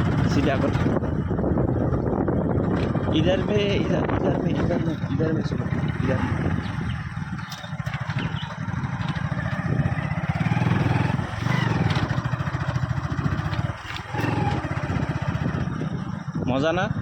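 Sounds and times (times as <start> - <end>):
motorcycle engine under load: 0.0 - 17.0
wind and road noise: 0.0 - 17.0.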